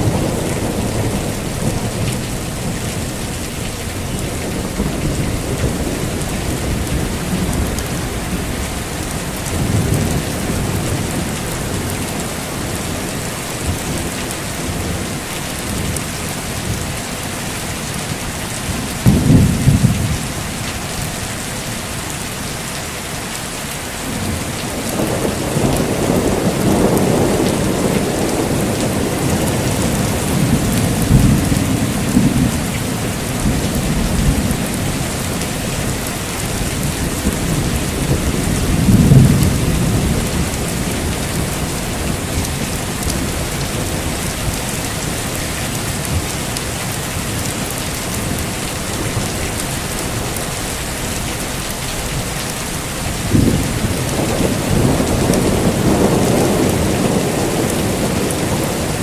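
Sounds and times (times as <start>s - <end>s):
thunder rumbling: 0.0s - 17.3s, 18.2s - 21.5s, 24.0s - 59.0s
heavy rain: 0.0s - 59.0s.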